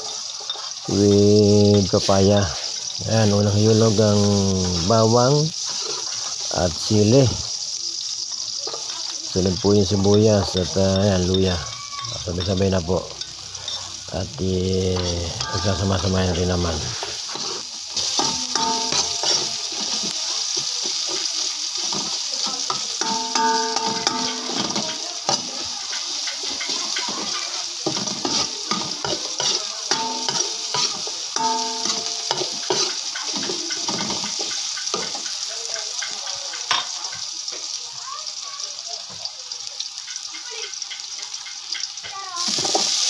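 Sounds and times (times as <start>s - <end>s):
aromatics sizzling in hot oil: 0.0s - 43.0s.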